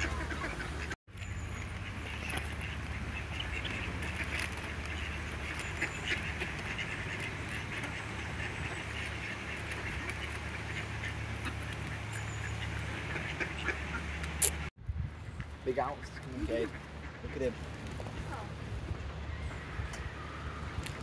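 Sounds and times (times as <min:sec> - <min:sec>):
ducks quacking: 0:00.0 - 0:01.0, 0:01.6 - 0:14.7, 0:15.7 - 0:18.6.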